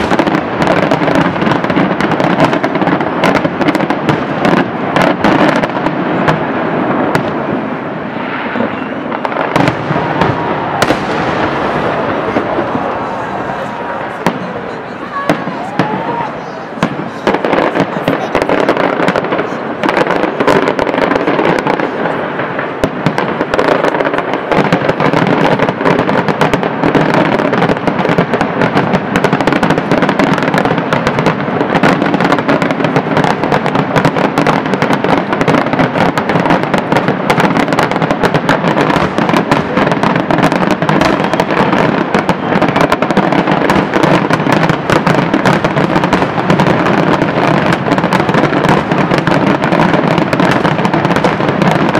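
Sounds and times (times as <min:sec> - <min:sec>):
fireworks bursting: 0:00.0 - 0:51.9.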